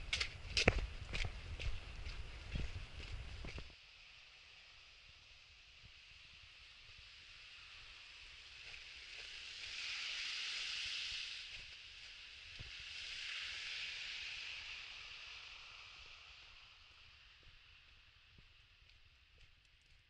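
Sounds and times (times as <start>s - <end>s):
car tyres hissing on wet road: 3.2s - 19.3s.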